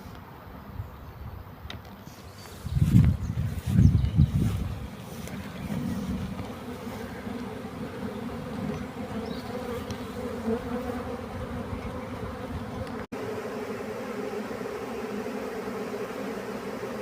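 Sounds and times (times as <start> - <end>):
bees buzzing: 2.3 - 17.0.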